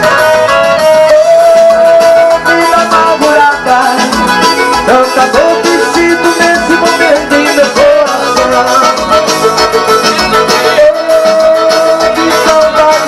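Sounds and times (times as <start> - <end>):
instrumental band music: 0.0 - 13.0
plucked strings: 0.0 - 13.0.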